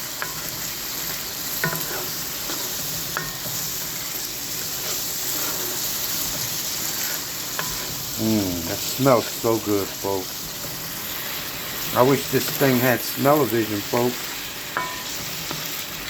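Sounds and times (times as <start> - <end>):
mushrooms sizzling in a skillet: 0.0 - 16.0.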